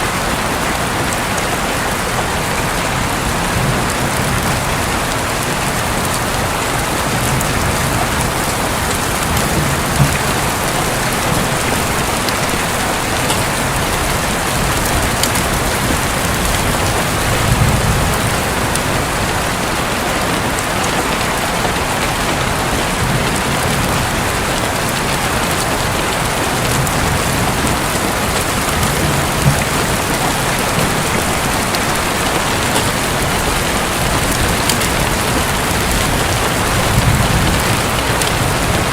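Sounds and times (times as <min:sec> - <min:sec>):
heavy rain on a roof: 0:00.0 - 0:38.9
distant thunder rumbling: 0:01.9 - 0:38.9.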